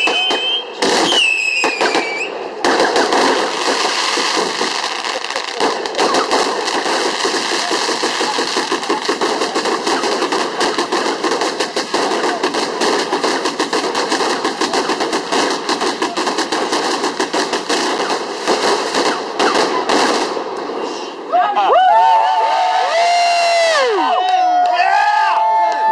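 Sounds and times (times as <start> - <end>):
fireworks crackling bangs: 0.0 - 21.2.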